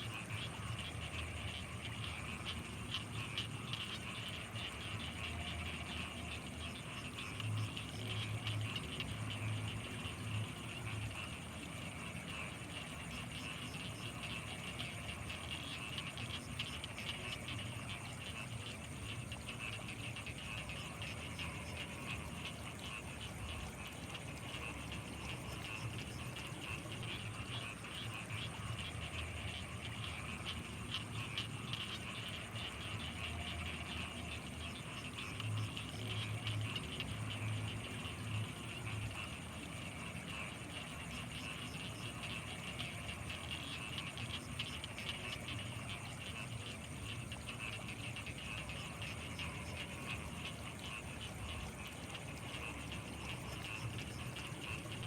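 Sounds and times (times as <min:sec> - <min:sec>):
frogs chirring: 0:00.0 - 0:55.0
high-pitched insect trill: 0:00.0 - 0:55.0.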